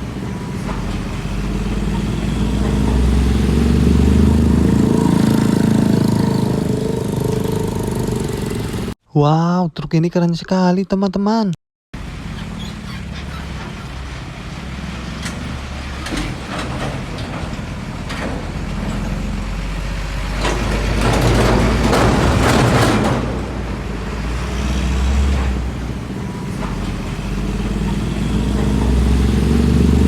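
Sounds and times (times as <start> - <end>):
diesel truck engines rumbling: 0.0 - 9.0, 12.0 - 30.0.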